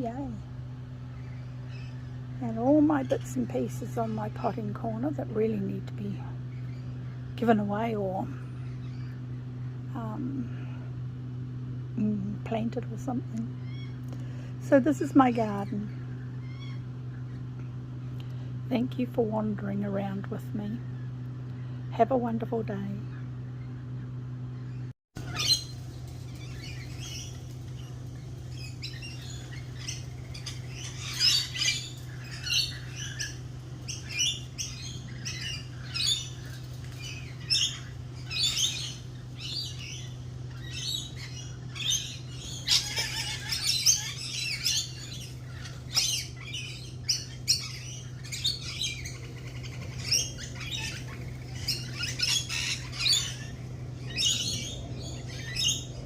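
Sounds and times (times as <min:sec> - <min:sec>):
birds squawking and chirping: 0:00.0 - 0:11.9, 0:12.5 - 0:18.6, 0:19.2 - 0:56.0
steady low hum: 0:00.0 - 0:56.0.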